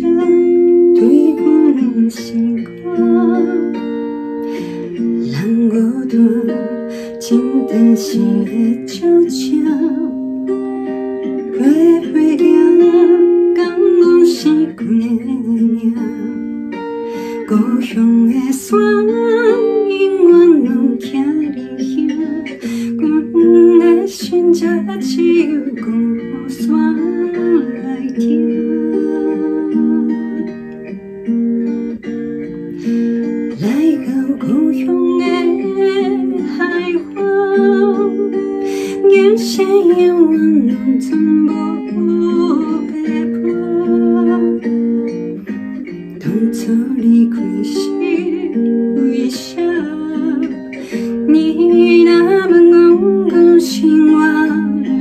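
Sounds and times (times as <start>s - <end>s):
woman singing: 0.0s - 31.5s, 32.6s - 55.0s.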